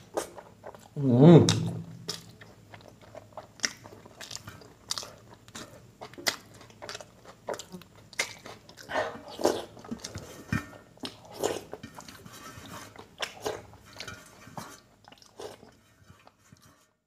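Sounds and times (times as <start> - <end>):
wet chewing: 0.0 - 16.4.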